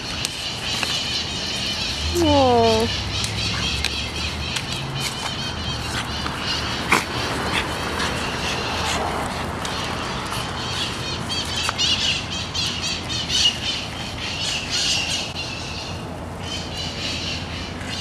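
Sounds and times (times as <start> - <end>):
birds chirping: 0.0 - 18.0
outdoor background noise: 0.0 - 18.0.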